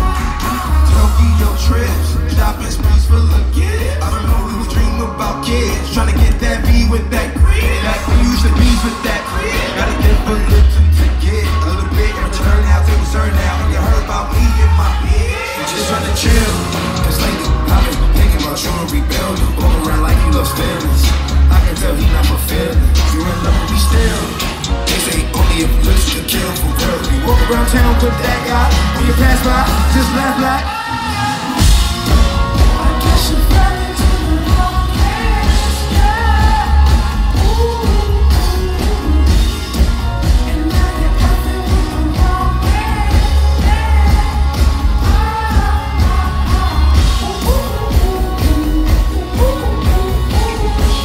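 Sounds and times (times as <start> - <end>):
bass-heavy beat: 0.0 - 51.0
vocals: 0.0 - 51.0.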